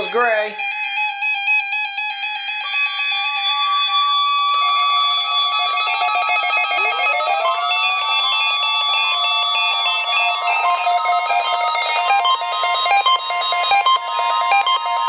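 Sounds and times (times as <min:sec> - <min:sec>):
fast-pulsing beep: 0:00.0 - 0:00.7, 0:02.6 - 0:15.0
steady electronic alert tones: 0:00.0 - 0:15.0.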